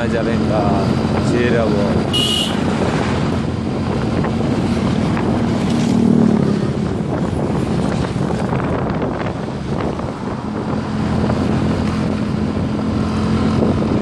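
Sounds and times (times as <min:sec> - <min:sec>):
motorcycle engine: 0:00.0 - 0:14.0
wind buffeting microphone: 0:00.0 - 0:14.0.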